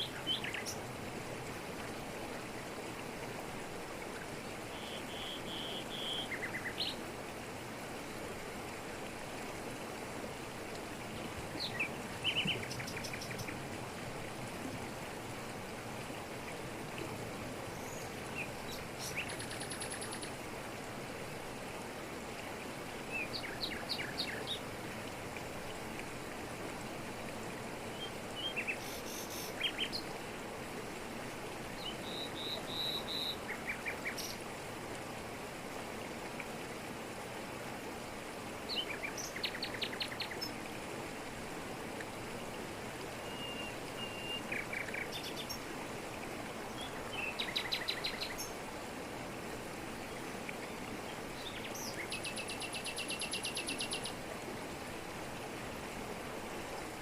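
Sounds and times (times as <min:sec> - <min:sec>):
waterfall pouring over rocks: 0:00.0 - 0:57.0.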